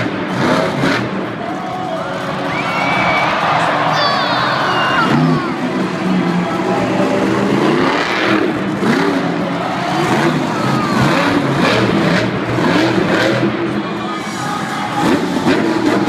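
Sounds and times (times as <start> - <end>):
monster truck engines revving: 0.0 - 16.0.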